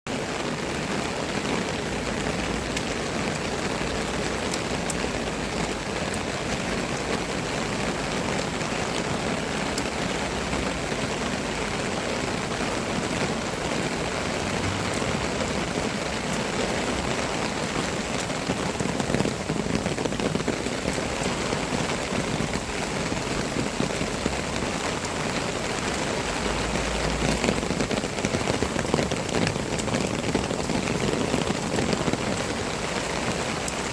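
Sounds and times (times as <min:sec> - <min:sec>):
rain pattering on a surface: 0:00.1 - 0:33.9.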